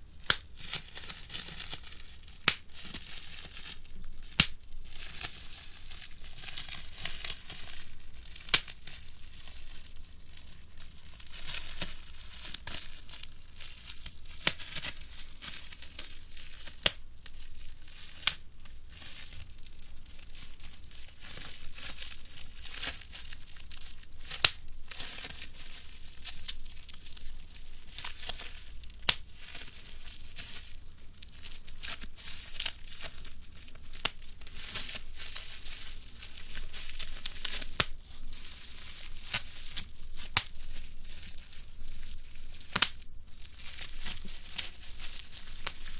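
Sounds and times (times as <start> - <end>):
bubble wrap crinkling: 0.0 - 45.9
bubble wrap popping: 0.0 - 45.9.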